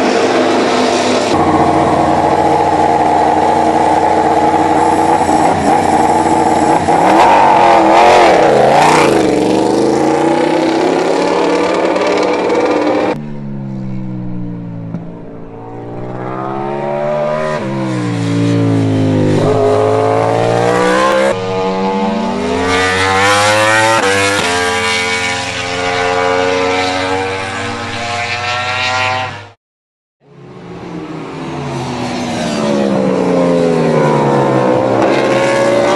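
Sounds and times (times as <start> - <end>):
racing motorcycle engine revving: 0.0 - 29.6, 31.6 - 35.9.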